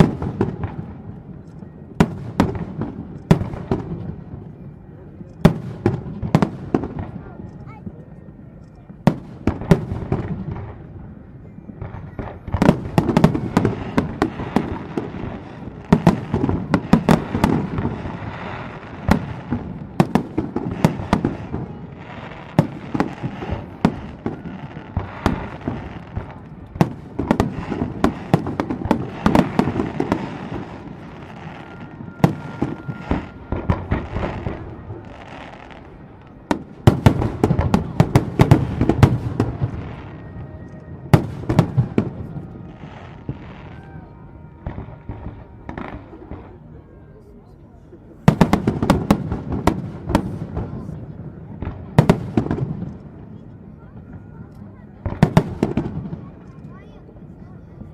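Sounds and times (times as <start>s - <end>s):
fireworks booming and crackling: 0.0s - 57.9s.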